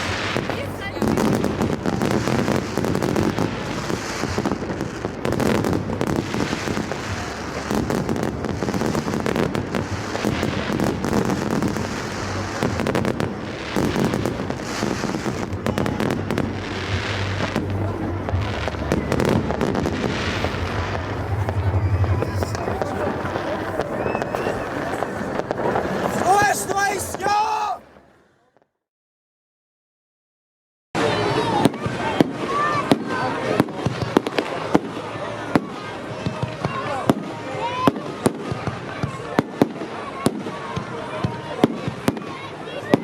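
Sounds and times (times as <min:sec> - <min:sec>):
fireworks bangs and crackles: 0:00.0 - 0:28.2, 0:31.0 - 0:43.0.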